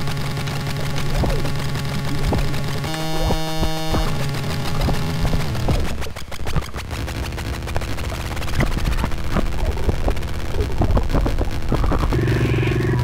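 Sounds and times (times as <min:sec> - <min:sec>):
hiss with clicks and pops: 0:00.0 - 0:13.0
low steady hum: 0:00.0 - 0:13.0
low synth drone: 0:00.0 - 0:13.0.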